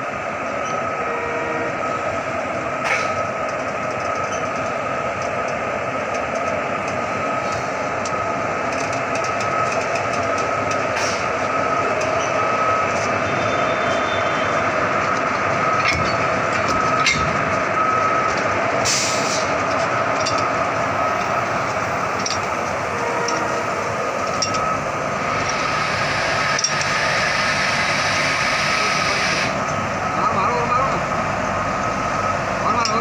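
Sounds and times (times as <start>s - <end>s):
locomotive humming and whining: 0.0s - 33.0s.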